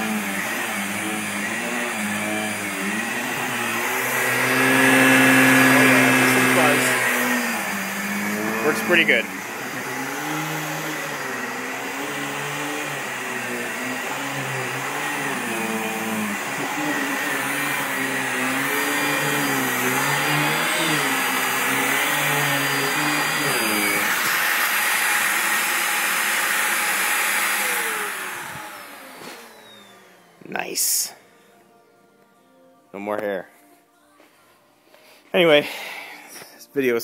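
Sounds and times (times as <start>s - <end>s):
vacuum cleaner drone: 0.0s - 31.8s.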